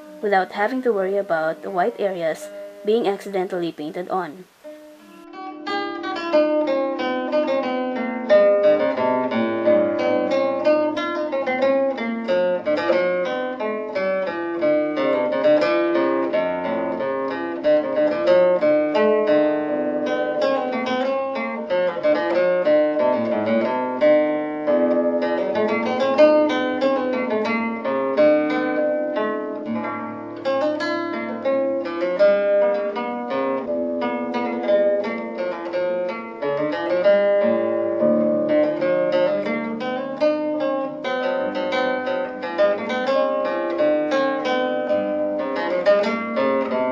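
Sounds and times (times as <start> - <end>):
plucked guitar-like instrument: 0.0 - 46.9.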